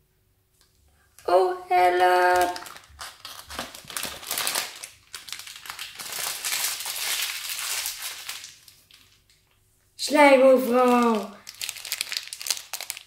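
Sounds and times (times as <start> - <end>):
sticky crackling and crinkling: 1.2 - 13.0.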